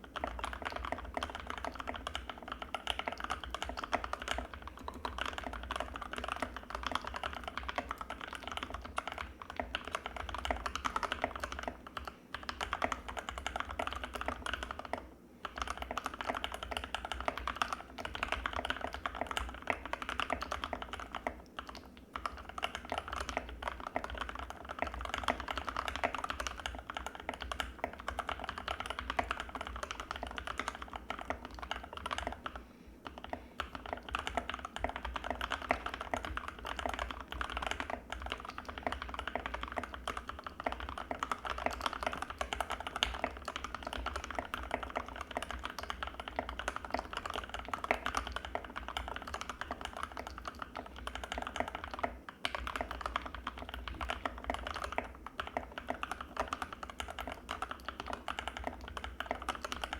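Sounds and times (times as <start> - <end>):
mechanical keyboard typing: 0.0 - 59.9.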